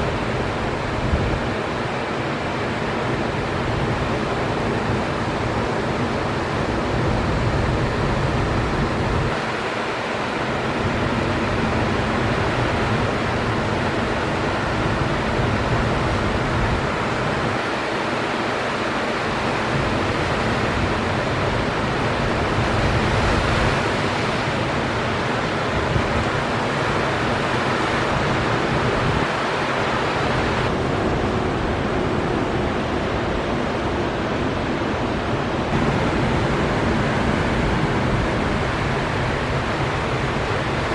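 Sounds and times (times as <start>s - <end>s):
ocean surf breaking: 0.0s - 40.9s
wind rumble on microphone: 0.0s - 40.9s.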